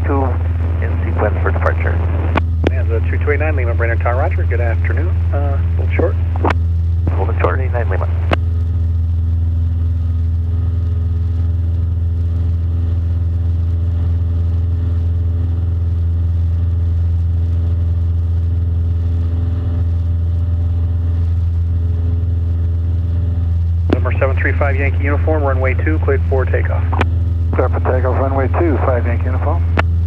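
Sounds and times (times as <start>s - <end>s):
propeller plane engine hum: 0.0s - 30.0s.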